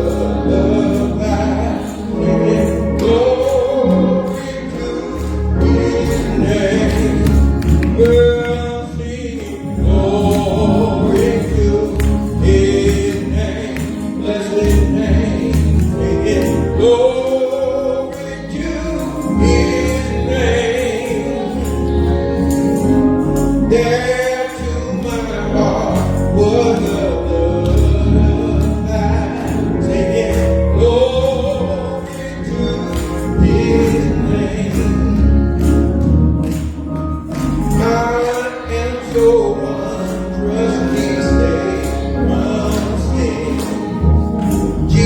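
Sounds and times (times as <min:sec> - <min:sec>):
choir singing gospel: 0:00.0 - 0:45.0.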